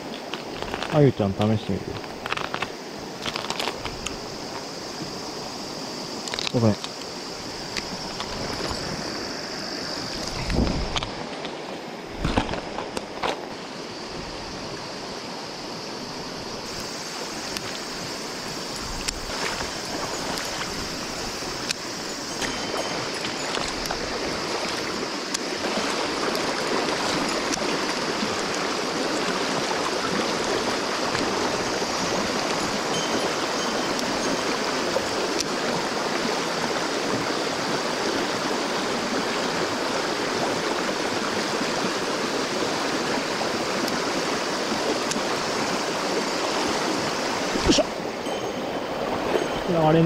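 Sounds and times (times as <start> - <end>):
stream rushing over rocks: 0.0 - 50.0.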